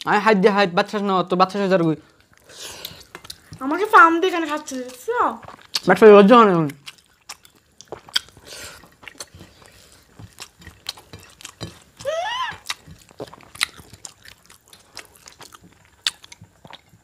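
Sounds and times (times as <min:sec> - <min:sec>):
chewing and mouth smacks: 0:02.2 - 0:03.6, 0:04.7 - 0:17.0.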